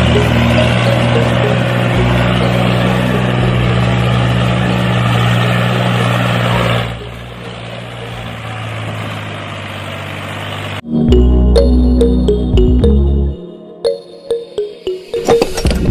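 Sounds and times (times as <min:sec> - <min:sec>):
music: 0:00.0 - 0:08.4, 0:10.8 - 0:15.9
engine humming: 0:00.0 - 0:15.9.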